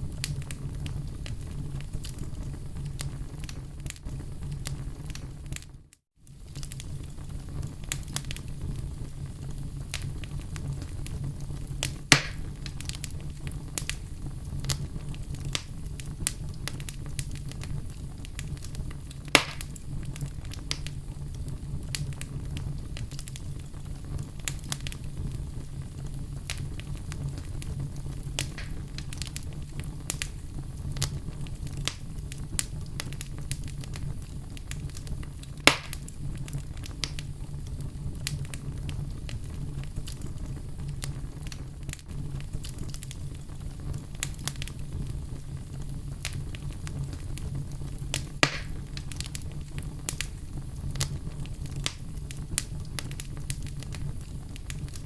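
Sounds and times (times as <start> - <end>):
fire crackles and pops: 0.0 - 55.0
low rumble of flames: 0.0 - 55.0.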